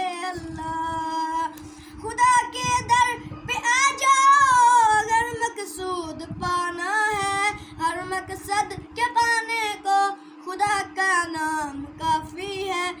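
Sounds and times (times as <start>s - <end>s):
boy singing devotional song: 0.0s - 13.0s
steady hum: 0.0s - 13.0s.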